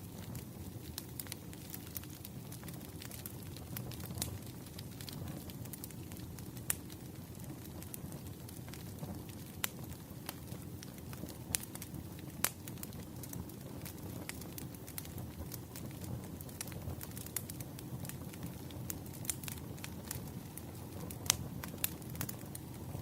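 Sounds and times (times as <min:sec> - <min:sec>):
firewood crackling and popping: 0:00.0 - 0:23.0
hiss of flames: 0:00.0 - 0:23.0.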